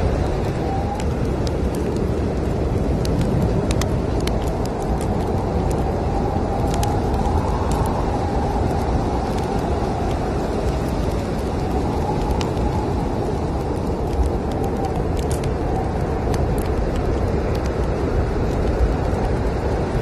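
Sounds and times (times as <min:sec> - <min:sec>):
howling storm wind: 0:00.0 - 0:20.0
wood fire crackling and popping: 0:00.0 - 0:20.0.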